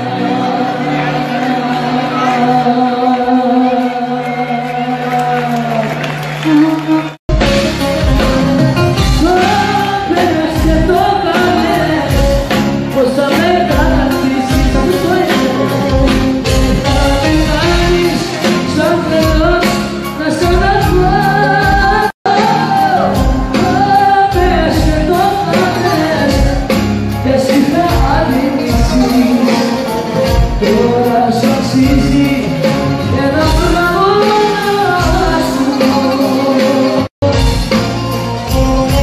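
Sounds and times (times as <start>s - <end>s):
woman singing into microphone: 0.0s - 37.7s
band with steady drum beat: 6.0s - 39.0s.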